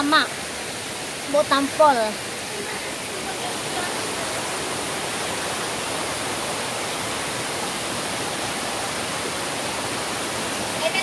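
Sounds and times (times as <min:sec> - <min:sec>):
waterfall rushing over boulders: 0:00.0 - 0:11.0.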